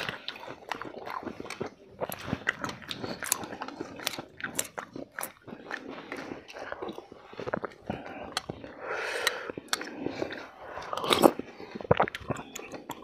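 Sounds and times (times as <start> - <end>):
people chewing and slurping: 0.0 - 13.0.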